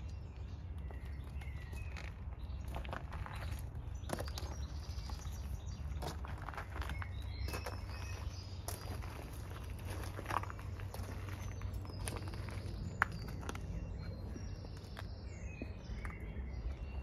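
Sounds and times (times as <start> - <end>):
small birds chirping: 0.0 - 17.0
steady low rumble: 0.0 - 17.0
footsteps crunching on gravel: 0.2 - 17.0.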